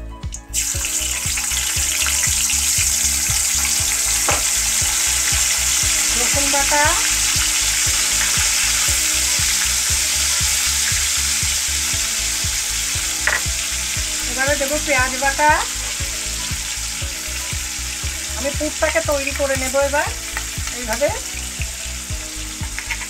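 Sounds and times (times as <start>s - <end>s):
paste sizzling in hot oil: 0.4s - 23.0s.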